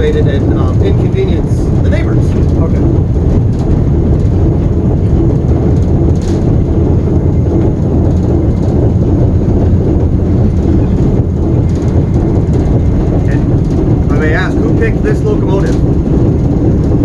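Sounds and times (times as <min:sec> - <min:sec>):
locomotive engine rumbling: 0:00.0 - 0:17.0.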